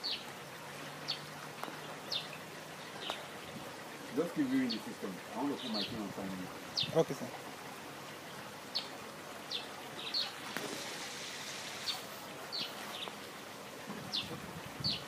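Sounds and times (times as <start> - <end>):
steady hiss: 2.1 - 15.0.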